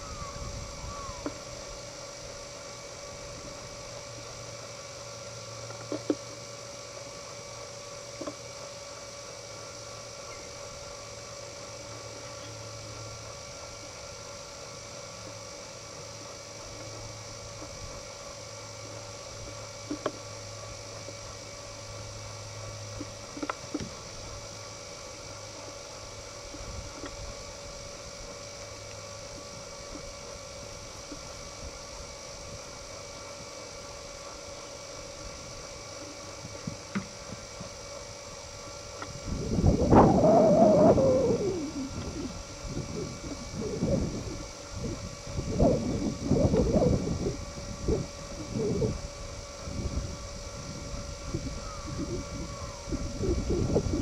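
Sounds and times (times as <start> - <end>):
electrical hum and hiss: 0.0 - 54.0.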